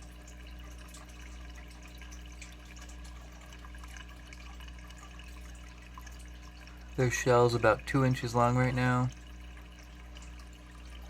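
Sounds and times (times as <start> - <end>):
low steady hum: 0.0 - 11.0
water trickling and dripping: 0.0 - 11.0.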